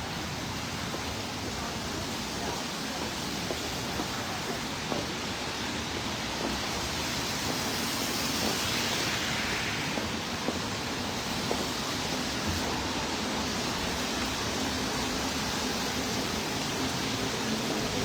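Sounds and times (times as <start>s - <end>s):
heavy rain on street: 0.0s - 18.0s.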